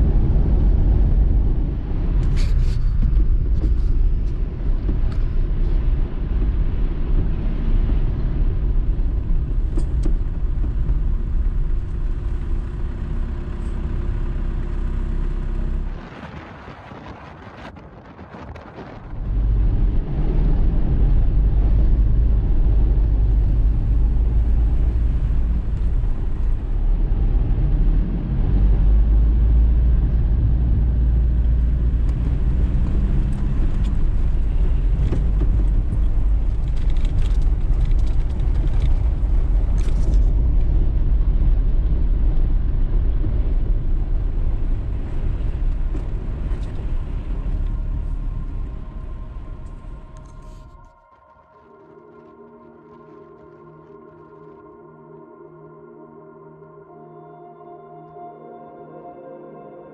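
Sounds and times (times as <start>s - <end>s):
car engine and tyre rumble: 0.0s - 54.8s.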